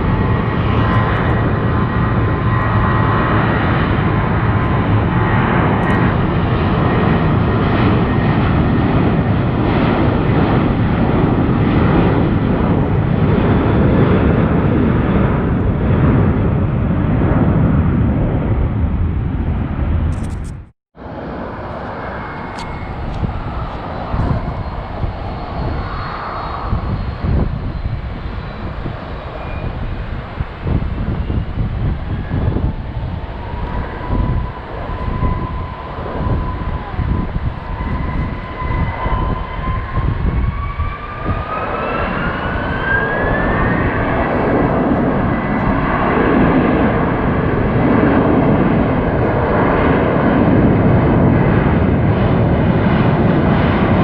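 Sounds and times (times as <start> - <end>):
jet engine whine rising: 0.0 - 54.0
jet engines roaring: 0.0 - 54.0.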